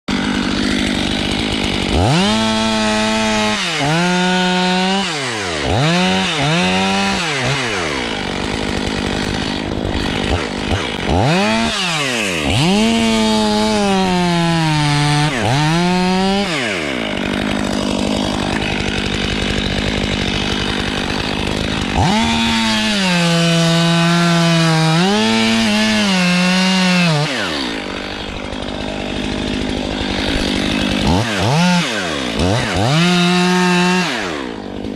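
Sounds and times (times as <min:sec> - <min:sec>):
chainsaw revving: 0:00.1 - 0:34.9.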